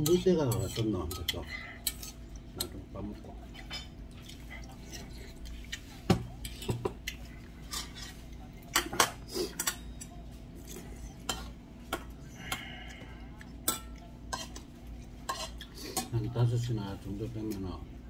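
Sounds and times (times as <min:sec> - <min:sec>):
utensils clinking on metal bowl: 0:00.0 - 0:05.2, 0:06.4 - 0:17.6
steady low hum: 0:00.0 - 0:18.0.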